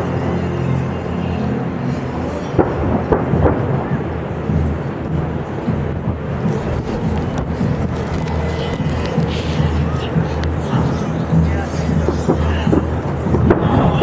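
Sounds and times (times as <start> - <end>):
fireworks booming: 2.6 - 14.0.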